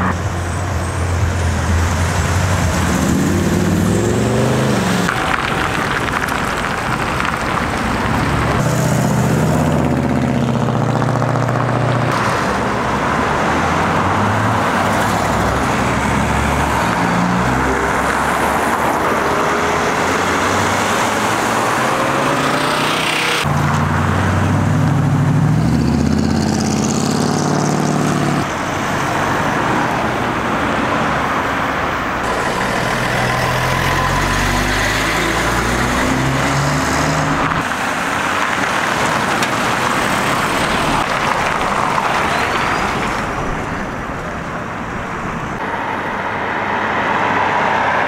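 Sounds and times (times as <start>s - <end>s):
cars accelerating past: 0.0s - 48.0s
road traffic noise: 0.0s - 48.0s.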